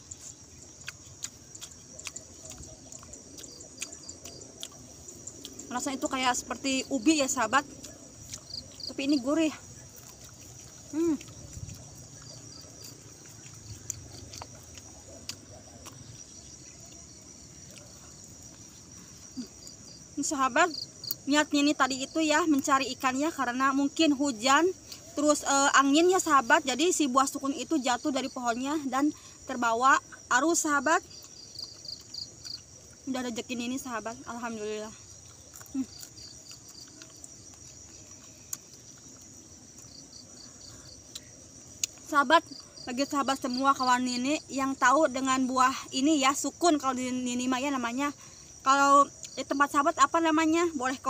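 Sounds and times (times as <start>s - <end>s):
crickets chirring: 0.0s - 51.0s
insect chorus: 0.0s - 51.0s.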